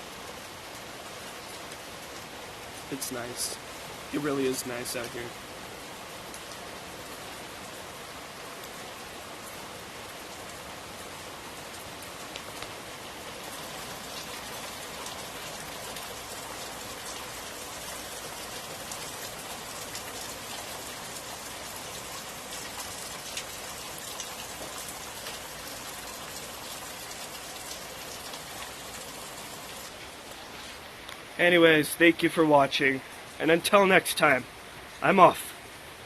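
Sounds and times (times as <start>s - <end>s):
heavy rain falling: 0.0s - 36.0s
raindrops pattering close by: 0.2s - 35.8s.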